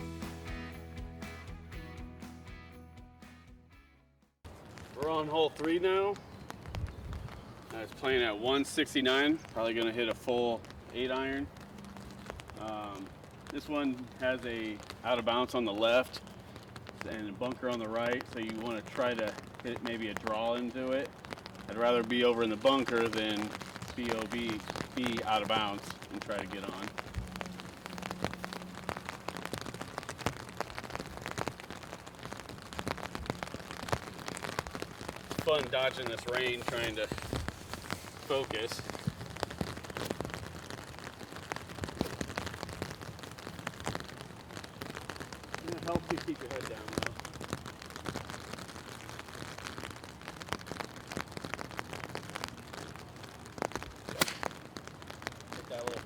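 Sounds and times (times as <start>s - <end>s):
hiss of rain: 4.5s - 56.0s
raindrops ticking close by: 4.5s - 56.0s.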